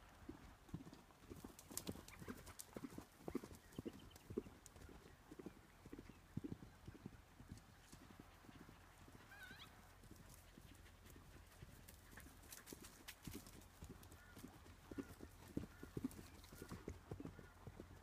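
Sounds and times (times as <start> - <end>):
horse hoofbeats cantering on grass: 0.0 - 18.0.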